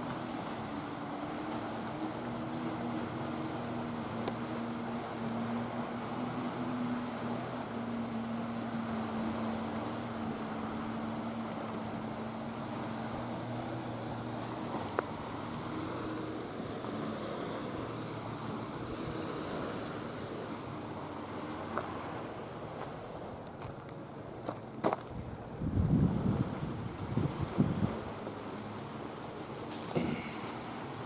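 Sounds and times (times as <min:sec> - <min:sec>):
distant engine droning: 0:00.0 - 0:31.0
high thin insect trill: 0:00.0 - 0:31.0.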